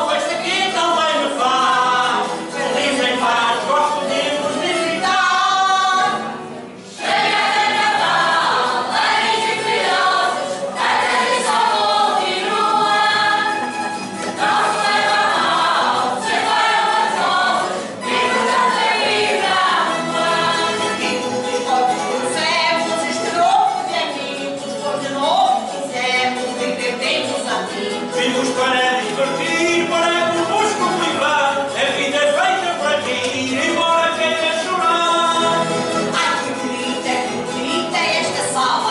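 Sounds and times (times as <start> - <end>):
group of voices singing: 0.0 - 38.9.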